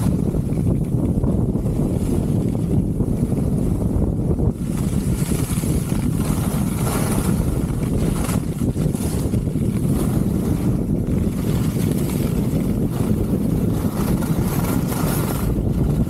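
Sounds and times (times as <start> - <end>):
skis carving on packed snow: 0.0 - 16.0
wind buffeting microphone: 0.0 - 16.0.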